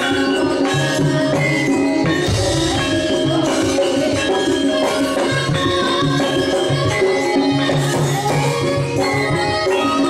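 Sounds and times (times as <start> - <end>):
percussion steady beat: 0.0 - 10.0.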